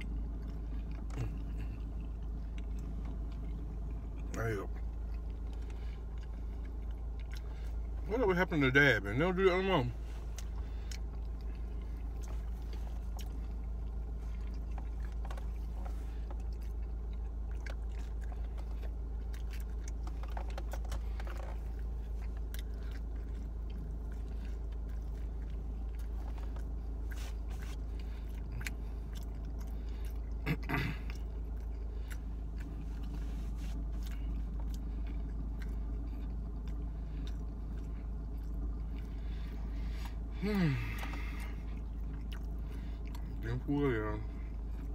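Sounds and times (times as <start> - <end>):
chewing and biting pizza: 0.0 - 44.9
steady low hum: 0.0 - 44.9.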